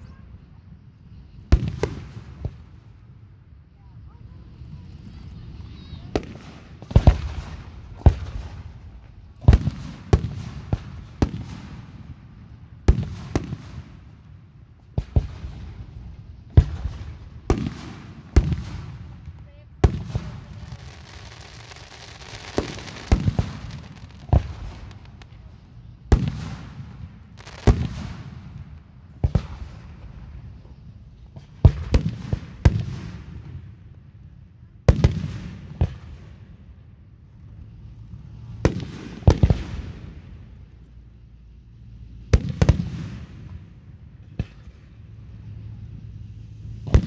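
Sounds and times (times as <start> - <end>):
firework crackle: 3.7 - 34.1, 34.9 - 47.0.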